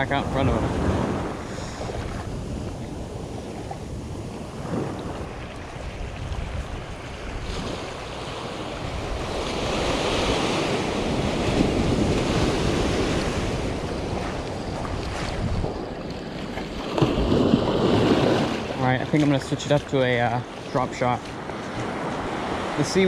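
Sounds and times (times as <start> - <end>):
small waves washing on sand: 0.0 - 23.0
wind buffeting microphone: 0.0 - 23.0.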